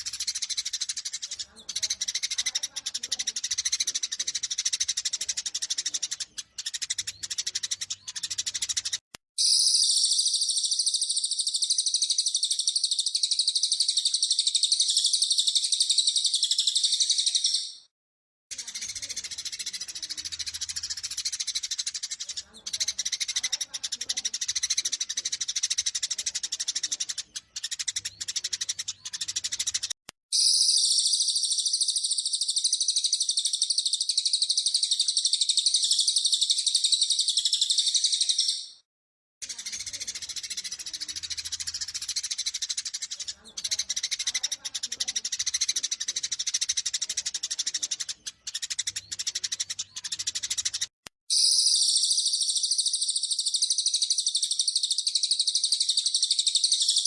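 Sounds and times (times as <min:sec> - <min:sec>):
high bird trill: 0:00.0 - 0:17.9, 0:18.5 - 0:38.8, 0:39.4 - 0:57.0
sparrows chirping rapidly: 0:00.0 - 0:17.9, 0:18.5 - 0:38.8, 0:39.4 - 0:57.0.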